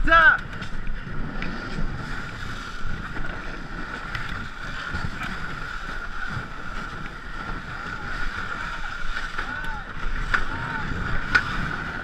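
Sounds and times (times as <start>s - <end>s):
wind on microphone: 0.0s - 12.0s
hull scraping over snow: 0.6s - 12.0s.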